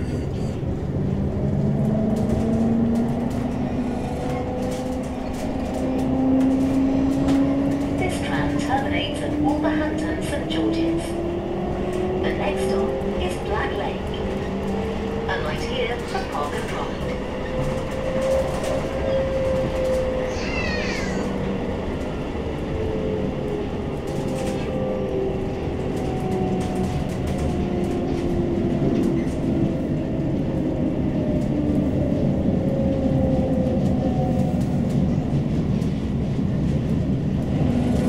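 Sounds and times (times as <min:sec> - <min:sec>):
tram rumble with motor whine: 0:00.0 - 0:38.0.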